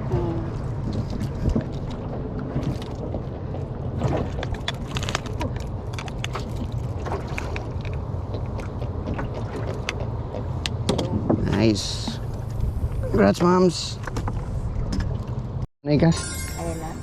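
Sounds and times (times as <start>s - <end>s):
boat engine low rumble: 0.0s - 15.7s.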